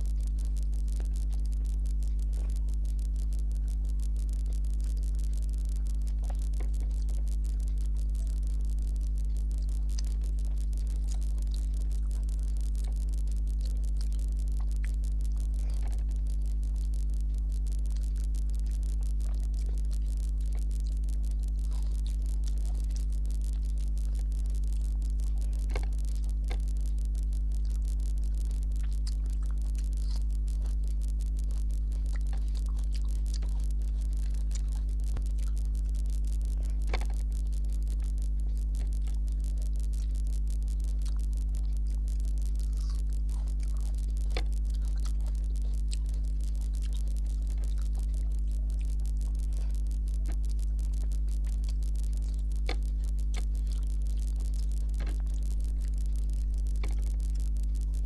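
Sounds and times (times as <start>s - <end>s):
chewing: 0.0s - 58.0s
hand mixing food on plate: 0.0s - 58.0s
low electrical hum: 0.0s - 58.0s.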